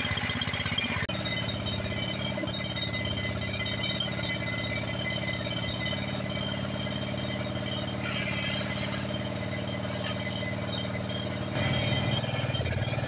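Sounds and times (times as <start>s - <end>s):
lawn tractor engine idling: 0.0s - 13.0s.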